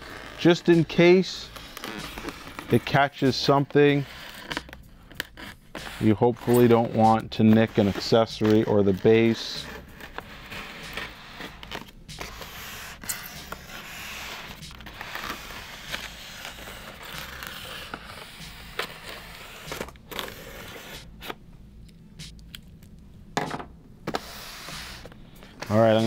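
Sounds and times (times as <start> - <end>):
cutter slicing packing tape: 0.0 - 21.4.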